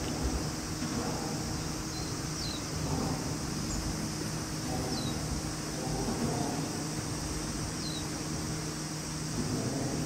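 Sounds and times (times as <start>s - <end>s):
low rumble and hum: 0.0s - 10.0s.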